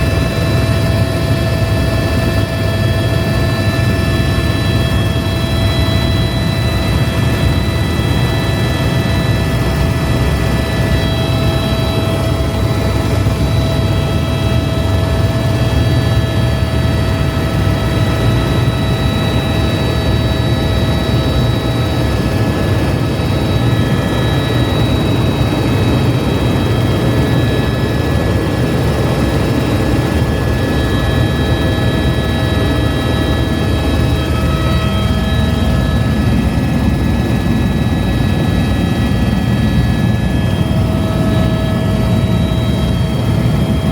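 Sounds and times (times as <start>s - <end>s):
helicopter rotor and engine drone: 0.0s - 43.9s
high turbine whine: 0.0s - 43.9s.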